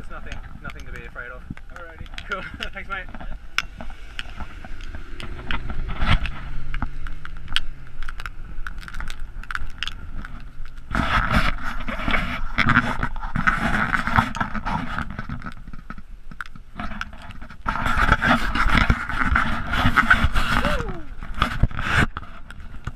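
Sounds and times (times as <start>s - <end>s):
wind buffeting camera: 0.0s - 22.9s.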